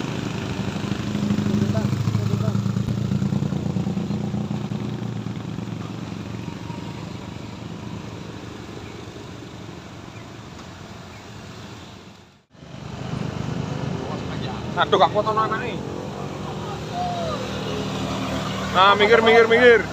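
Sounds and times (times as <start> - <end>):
vehicle engine climbing hill: 0.0 - 19.9.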